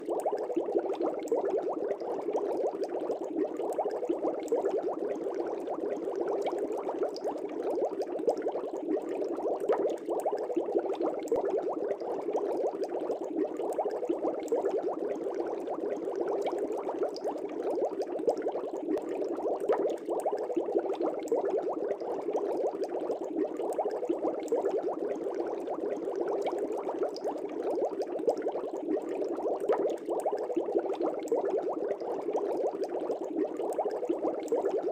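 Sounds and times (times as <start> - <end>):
aquarium air bubbles bubbling: 0.0 - 34.9.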